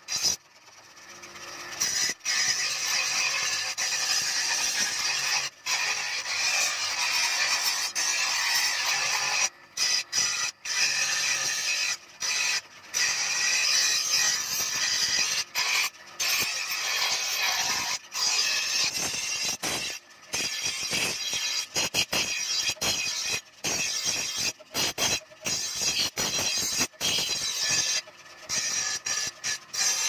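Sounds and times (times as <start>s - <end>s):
knife grinding on bench grinder: 0.0s - 30.0s.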